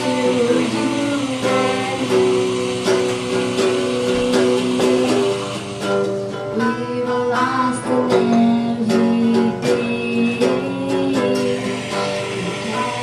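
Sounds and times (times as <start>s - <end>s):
electric guitar strumming chords: 0.0s - 13.0s
woman singing: 0.0s - 13.0s.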